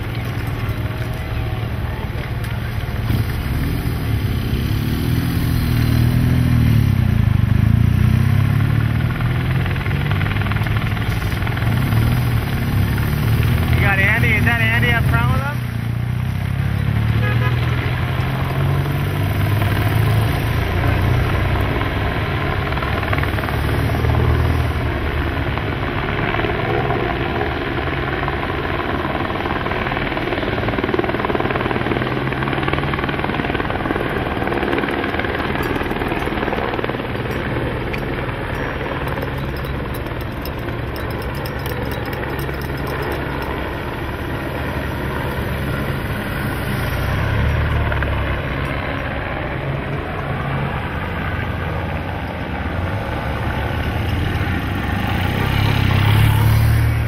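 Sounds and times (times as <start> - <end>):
helicopter rotor chopping: 0.0 - 57.0
low engine hum: 0.0 - 57.0.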